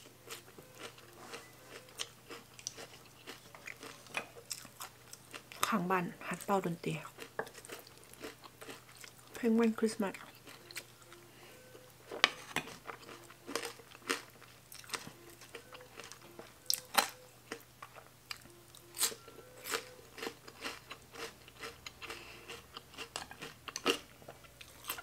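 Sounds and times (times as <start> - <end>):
person chewing and smacking: 0.3 - 5.7, 7.1 - 9.4, 12.1 - 25.0.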